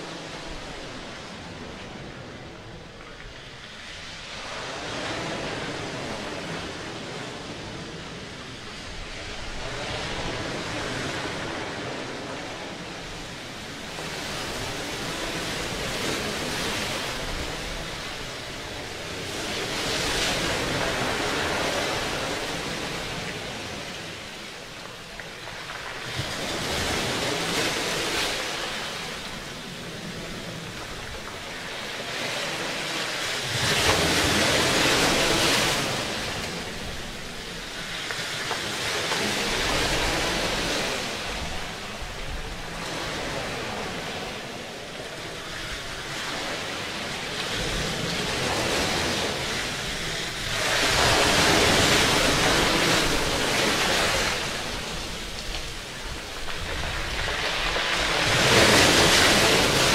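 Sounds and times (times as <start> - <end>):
surf washing over rocks: 0.0 - 59.9.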